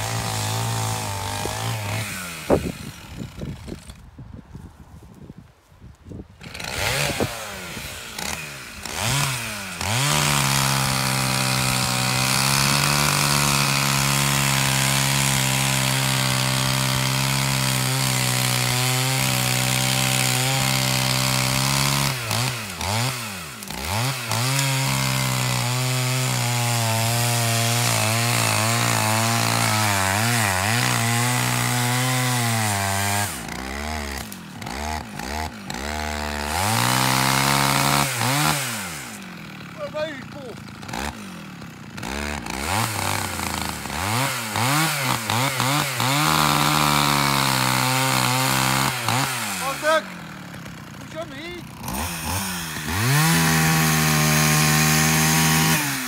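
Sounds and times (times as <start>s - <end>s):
chainsaw cutting wood: 0.0s - 4.2s, 6.1s - 56.0s.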